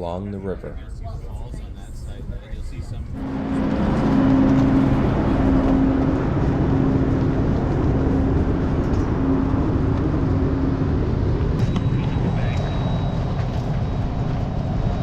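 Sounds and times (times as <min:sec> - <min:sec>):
train rumbling: 0:00.8 - 0:15.0.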